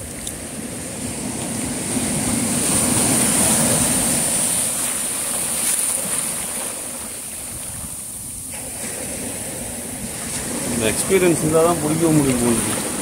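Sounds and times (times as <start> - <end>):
sea surf washing on beach: 0.0 - 13.0.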